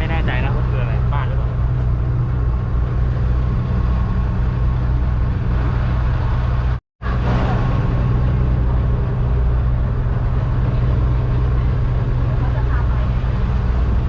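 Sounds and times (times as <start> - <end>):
boat engine droning: 0.0 - 14.0
wind: 0.0 - 14.0.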